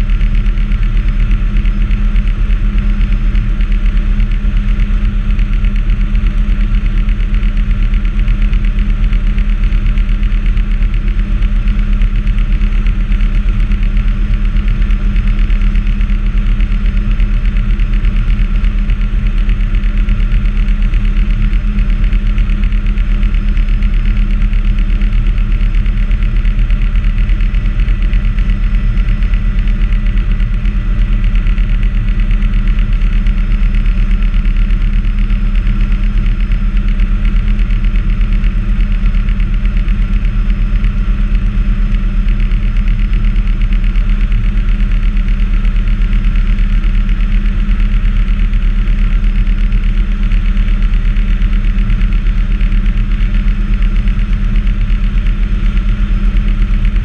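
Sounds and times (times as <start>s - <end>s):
helicopter engine and rotor drone: 0.0s - 57.0s
thin steady whine: 0.0s - 57.0s.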